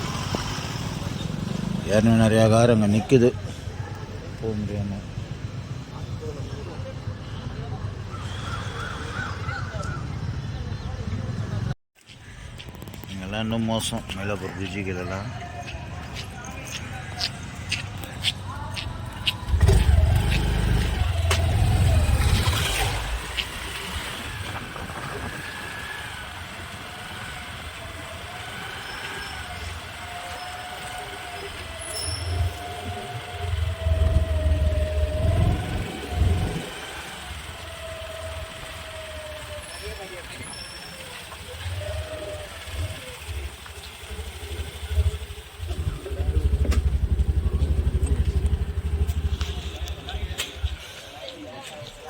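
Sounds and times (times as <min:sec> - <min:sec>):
road traffic noise: 0:00.0 - 0:52.0
motorcycle engine puttering: 0:07.9 - 0:52.0.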